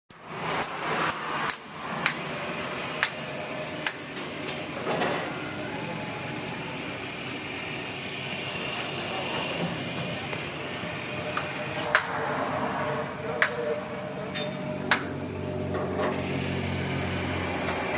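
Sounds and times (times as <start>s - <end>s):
washing machine whirring hiss: 0.2s - 17.9s.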